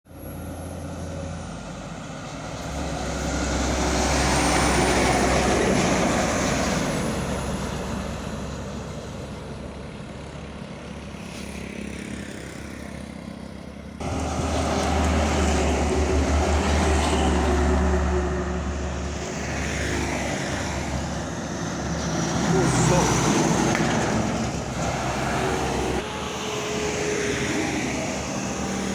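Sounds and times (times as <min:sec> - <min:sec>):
truck driving past: 0:00.1 - 0:28.9.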